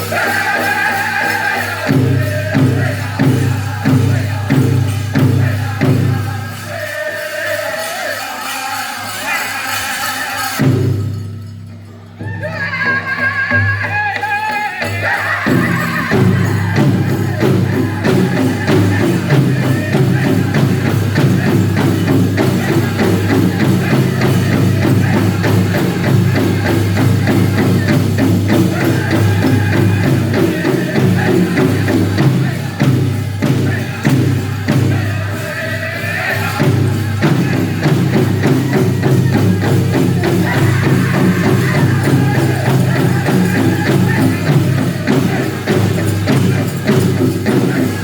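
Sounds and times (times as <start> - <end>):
big drum beat: 0.0 - 7.1, 14.9 - 48.0
men singing together: 0.0 - 11.0, 12.3 - 48.0.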